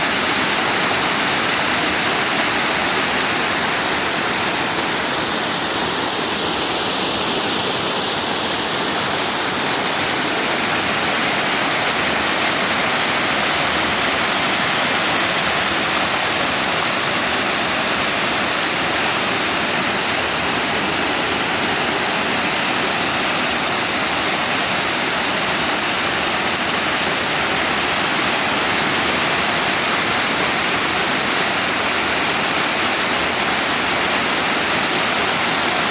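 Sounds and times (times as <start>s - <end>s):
stream water rushing: 0.0s - 35.9s.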